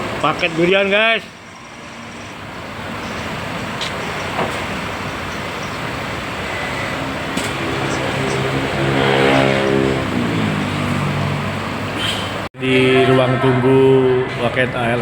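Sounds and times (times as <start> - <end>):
steady traffic noise: 0.0 - 15.0
vehicle engine drone: 0.0 - 15.0.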